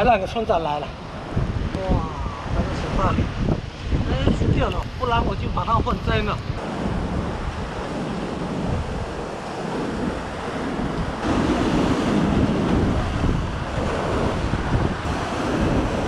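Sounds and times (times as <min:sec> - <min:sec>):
surf on rocky shore: 0:00.0 - 0:16.0
wind buffeting microphone: 0:00.0 - 0:16.0.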